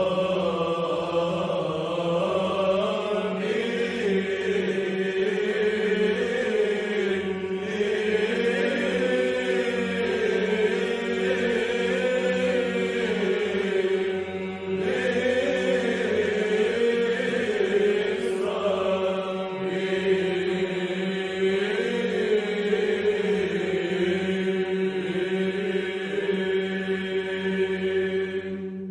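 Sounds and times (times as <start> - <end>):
chanted sung melody: 0.0 - 28.9.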